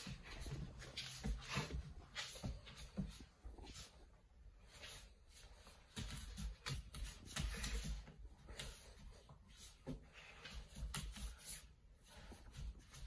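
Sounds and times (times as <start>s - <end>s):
paws scrabbling on wooden floor: 0.0s - 13.0s.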